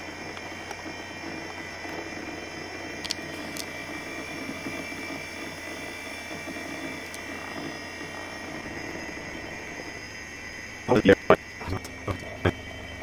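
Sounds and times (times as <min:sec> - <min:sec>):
computer hard drive and fan whir: 0:00.0 - 0:13.0.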